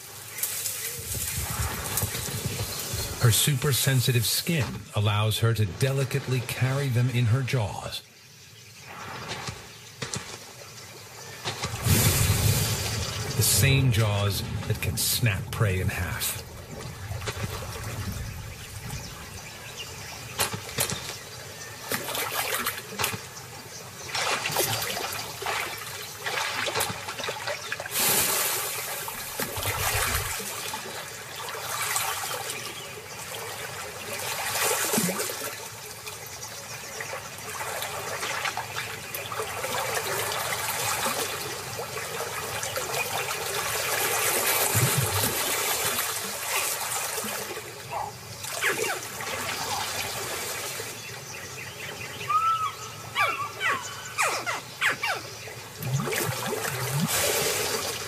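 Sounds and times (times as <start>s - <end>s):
water sloshing and splashing: 0.0s - 3.6s, 8.8s - 15.0s, 16.0s - 52.0s, 55.6s - 58.0s.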